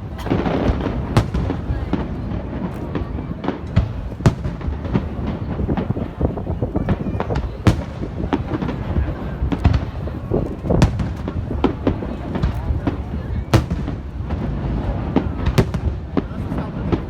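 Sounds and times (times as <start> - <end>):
fireworks bangs: 0.0 - 17.0
low rumble of fireworks: 0.0 - 17.0.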